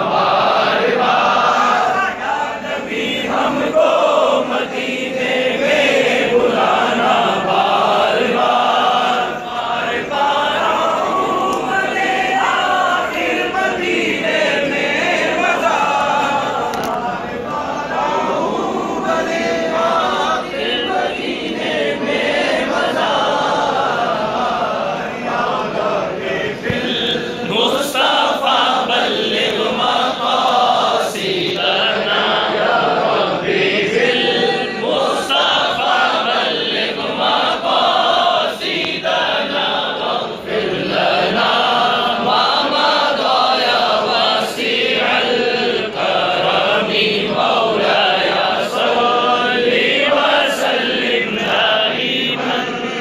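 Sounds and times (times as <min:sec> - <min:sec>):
crowd of men chanting: 0:00.0 - 0:53.0.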